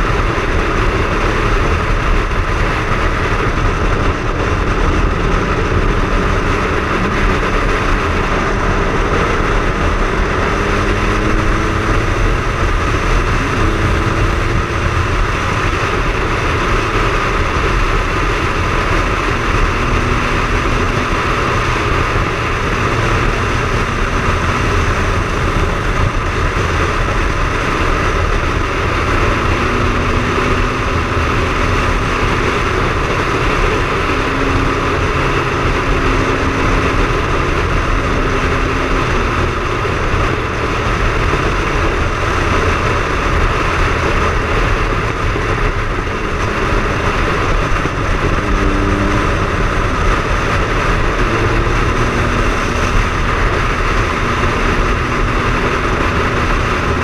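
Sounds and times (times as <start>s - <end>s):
loud rush of noise: 0.0s - 57.0s
motorcycle engine running: 0.0s - 57.0s.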